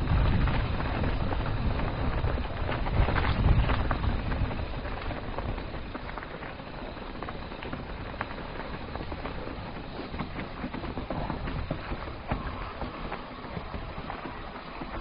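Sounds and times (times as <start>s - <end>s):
bike clicks and rattles: 0.0s - 15.0s
tyre and wind noise: 0.0s - 15.0s.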